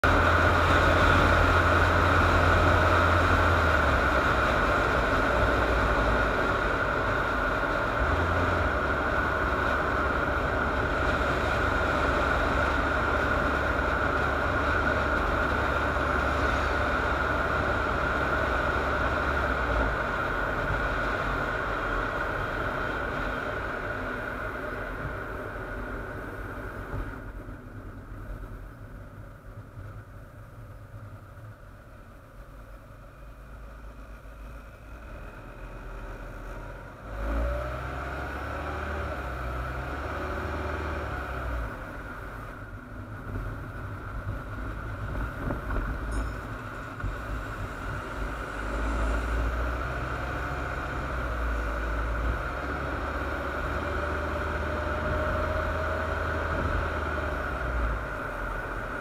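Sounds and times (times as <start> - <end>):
muffled car road and engine rumble: 0.0 - 59.0.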